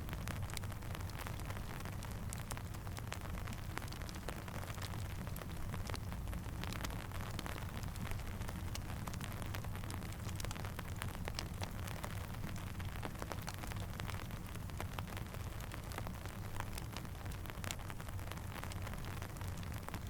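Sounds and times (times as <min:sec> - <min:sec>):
crackling campfire: 0:00.0 - 0:20.0
steady rain: 0:00.0 - 0:20.0.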